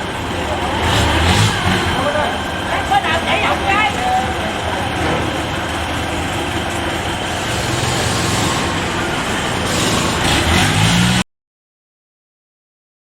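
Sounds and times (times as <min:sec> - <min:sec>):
farm machine engine running: 0:00.0 - 0:11.2.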